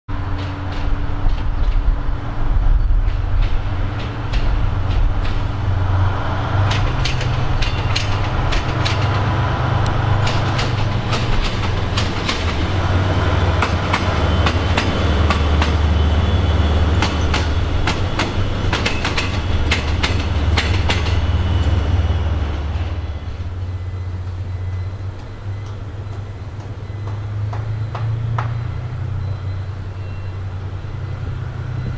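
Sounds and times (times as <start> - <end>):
diesel locomotive engine running: 0.1 - 31.9
wheels clacking over rail joints: 0.1 - 31.9.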